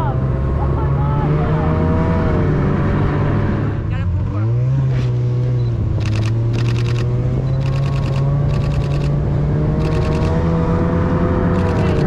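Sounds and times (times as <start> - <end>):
snowmobile engine cruising: 0.0 - 12.0.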